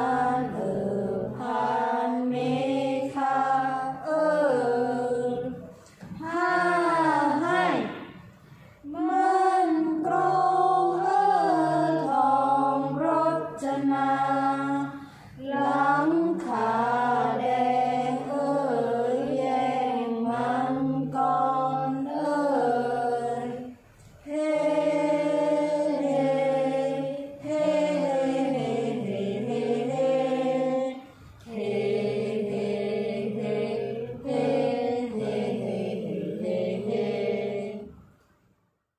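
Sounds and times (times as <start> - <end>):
young voices chanting in unison: 0.0 - 38.0.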